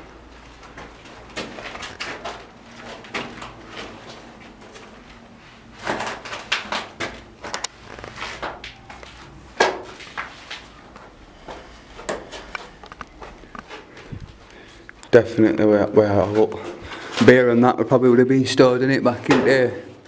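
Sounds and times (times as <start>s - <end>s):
knocks and scuffs of people moving: 0.0s - 17.6s.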